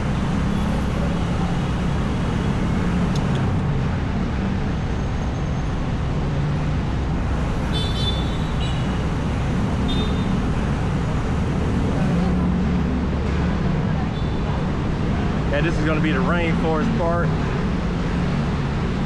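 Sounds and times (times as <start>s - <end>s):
street traffic hum: 0.0s - 19.0s.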